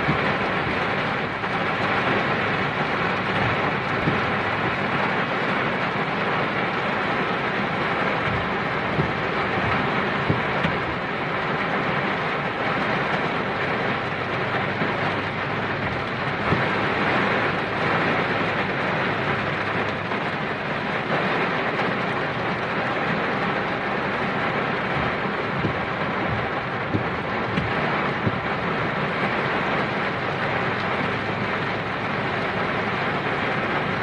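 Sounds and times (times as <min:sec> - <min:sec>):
heavy rain in gusty wind: 0:00.0 - 0:34.0
raindrops tapping close by: 0:00.0 - 0:34.0.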